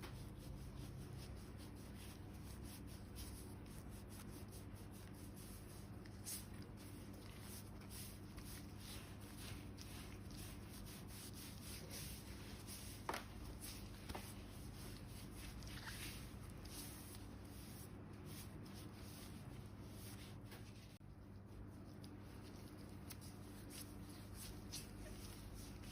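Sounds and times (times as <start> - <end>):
hands rubbing skin of foot: 0.0 - 21.0, 21.6 - 25.9.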